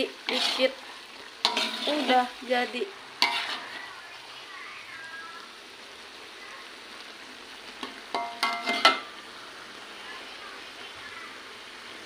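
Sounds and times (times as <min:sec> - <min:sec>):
squid sizzling in a pan: 0:00.0 - 0:12.0.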